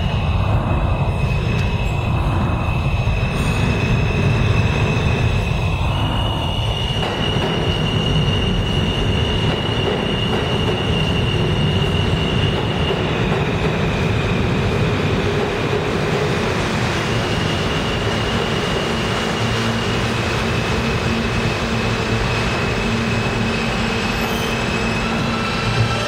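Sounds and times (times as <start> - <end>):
high train whine: 0.0 - 26.0
subway train rumbling on rails: 0.0 - 26.0.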